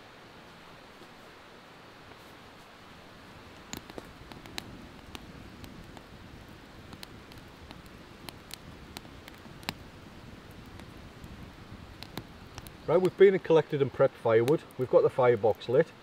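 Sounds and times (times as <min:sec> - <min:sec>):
low hiss of fire: 0:00.0 - 0:16.0
sticks crackling and popping in stove: 0:03.0 - 0:16.0.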